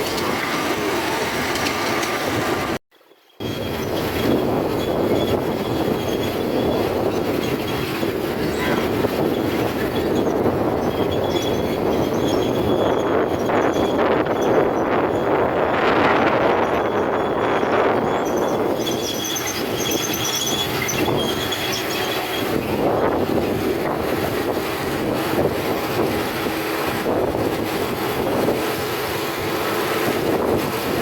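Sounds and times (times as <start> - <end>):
miniature train rolling on track: 0.0 - 31.0.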